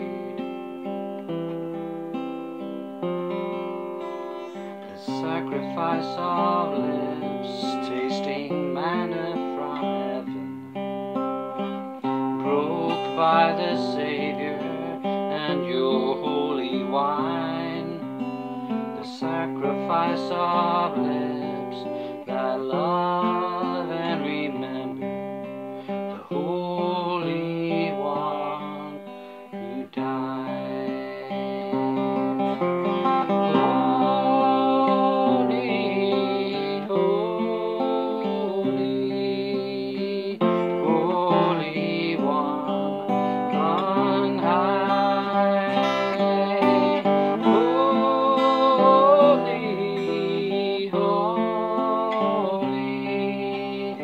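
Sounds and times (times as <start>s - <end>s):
man singing: 0.0s - 1.0s, 3.7s - 10.5s, 11.6s - 54.0s
acoustic guitar chords: 0.0s - 54.0s.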